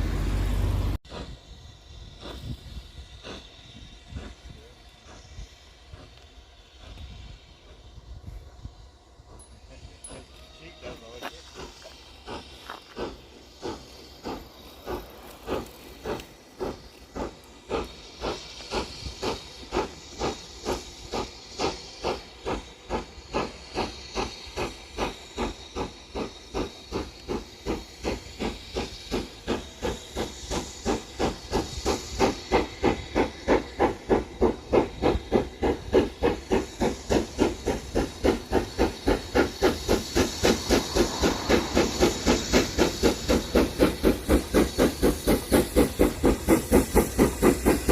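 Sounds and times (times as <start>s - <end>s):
steam locomotive chuffing: 0.0s - 47.9s.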